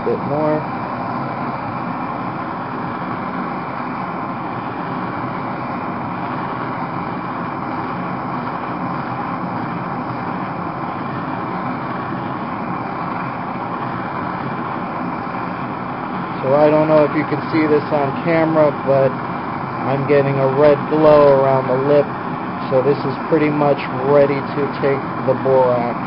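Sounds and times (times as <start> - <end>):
blow torch flame rushing: 0.0 - 26.0.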